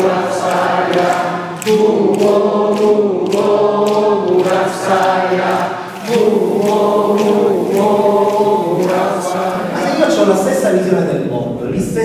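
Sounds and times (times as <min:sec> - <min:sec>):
hand claps: 0:00.0 - 0:10.4
group chanting in held notes: 0:00.0 - 0:10.6.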